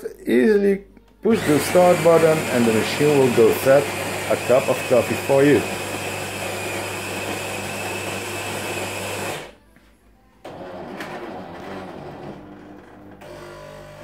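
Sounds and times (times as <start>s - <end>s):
coffee grinder whirring: 1.3s - 9.6s, 10.5s - 14.0s
coffee machine humming: 1.3s - 9.6s, 10.4s - 14.0s.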